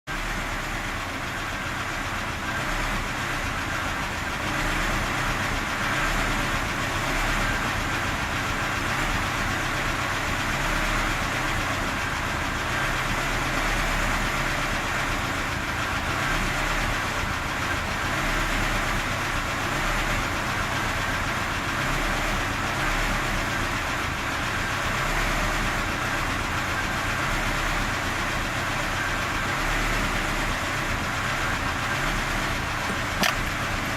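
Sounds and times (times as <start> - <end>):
car engine idling unevenly: 0.1 - 33.9.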